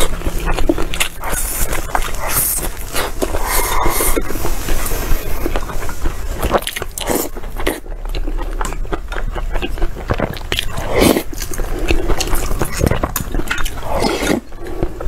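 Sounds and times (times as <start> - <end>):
chewing corn on the cob: 0.0 - 15.0.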